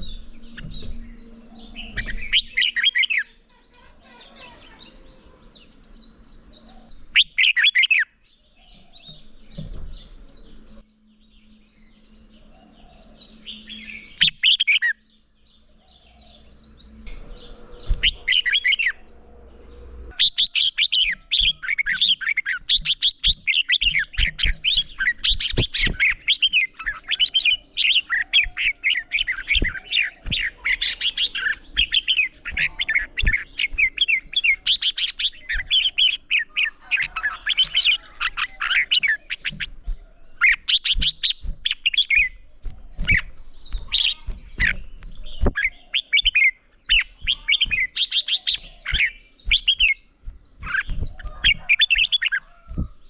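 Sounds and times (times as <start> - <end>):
birds warbling song: 0.0 - 53.0.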